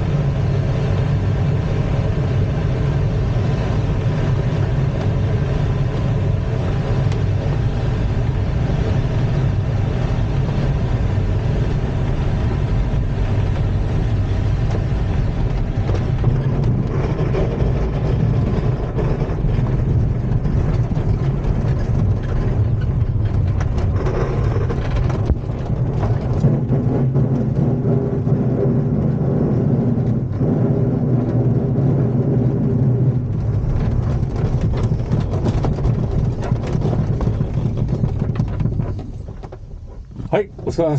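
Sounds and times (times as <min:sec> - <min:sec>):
glider cockpit rumble: 0:00.0 - 0:40.9.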